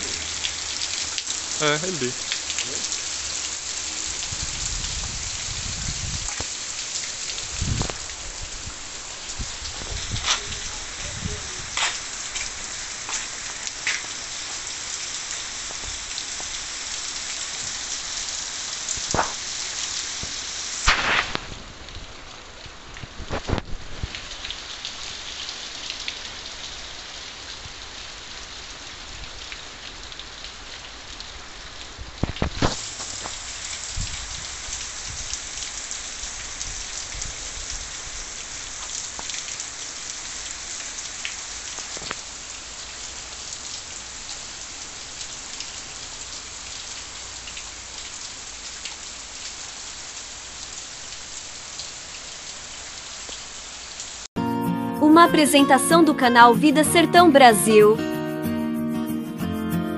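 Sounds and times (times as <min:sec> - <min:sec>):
steady rain hiss: 0:00.0 - 0:54.3.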